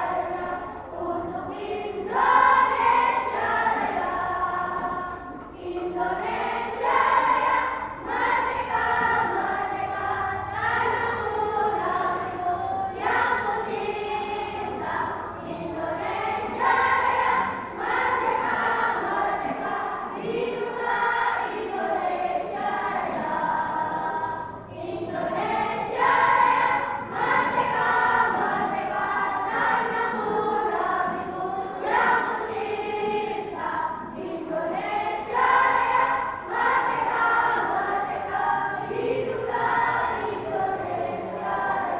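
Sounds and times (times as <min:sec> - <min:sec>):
children's choir singing: 0:00.0 - 0:41.9.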